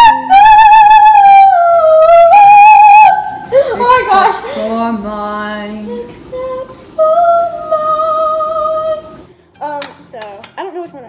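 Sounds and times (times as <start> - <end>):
girl singing unaccompanied: 0.0 - 9.3.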